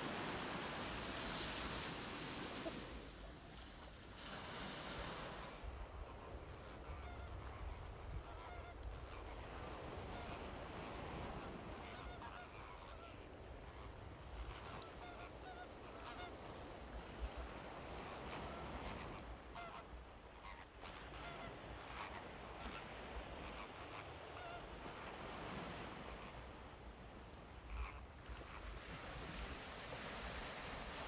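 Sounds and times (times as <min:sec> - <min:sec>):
wind and surf rumble: 0:00.0 - 0:31.0.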